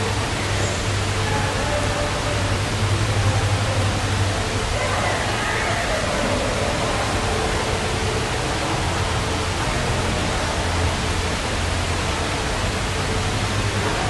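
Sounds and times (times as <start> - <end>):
low hum: 0.0 - 14.0
steady rushing noise: 0.0 - 14.0.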